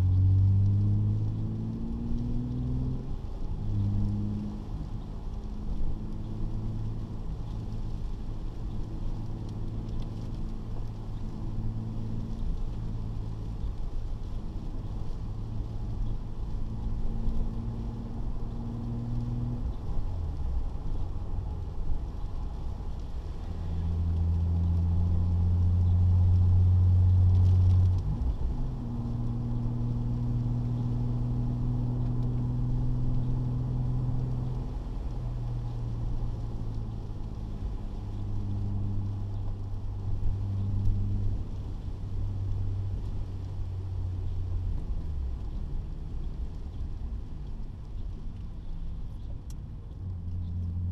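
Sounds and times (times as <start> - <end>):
car engine humming inside cabin: 0.0 - 50.9.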